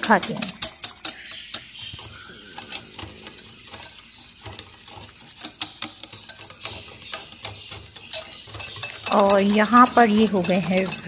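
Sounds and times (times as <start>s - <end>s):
whisk clicking on glass bowl: 0.0s - 11.0s.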